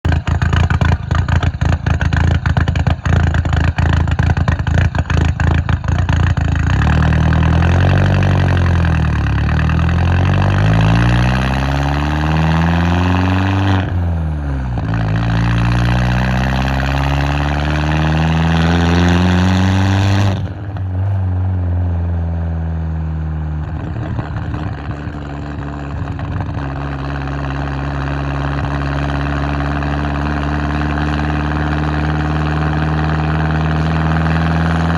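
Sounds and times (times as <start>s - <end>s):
car engine revving and idling: 0.1s - 34.9s.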